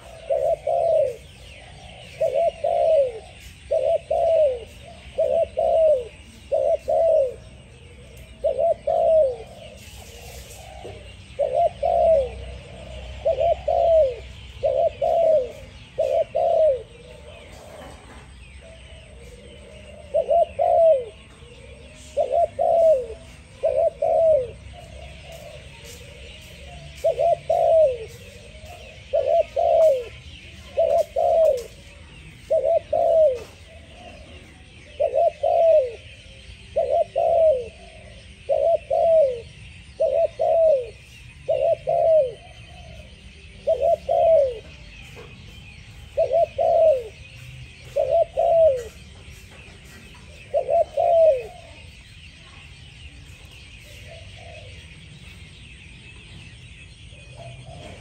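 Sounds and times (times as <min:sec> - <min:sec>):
dove cooing: 0:00.0 - 0:55.4, 0:57.1 - 0:58.0.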